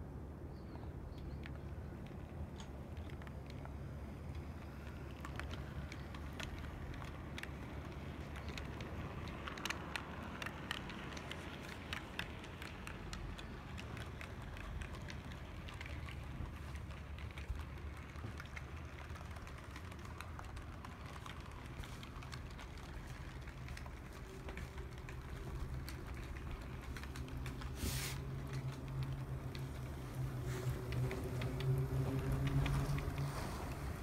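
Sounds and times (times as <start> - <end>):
low motor hum: 0.6 - 34.0
model train wheels clicking: 1.2 - 34.0.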